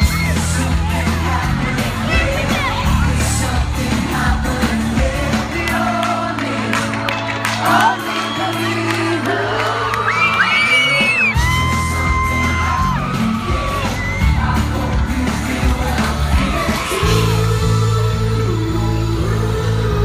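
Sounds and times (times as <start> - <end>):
fans screaming and whooping: 0.0 - 4.8, 5.5 - 19.8
pop band playing live: 0.0 - 20.0
person singing: 0.1 - 20.0.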